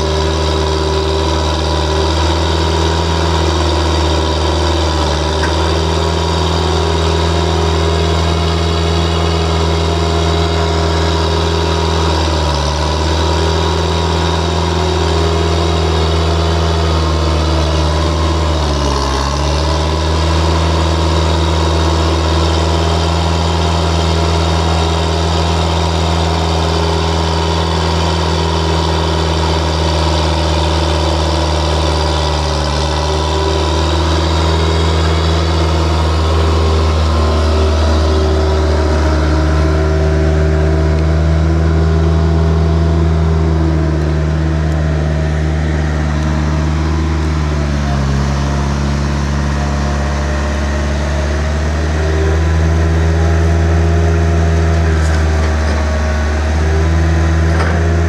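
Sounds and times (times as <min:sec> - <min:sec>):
skid steer engine running: 0:00.0 - 0:58.0.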